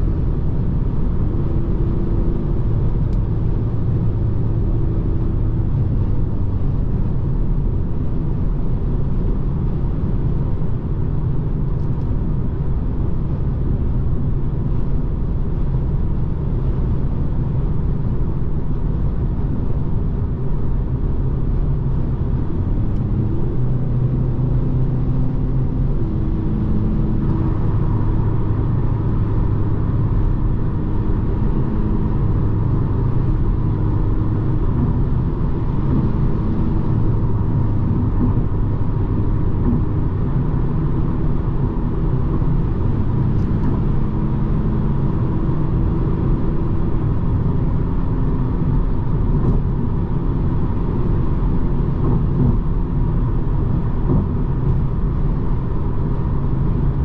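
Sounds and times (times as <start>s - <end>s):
car engine and tyres droning: 0.0s - 57.0s.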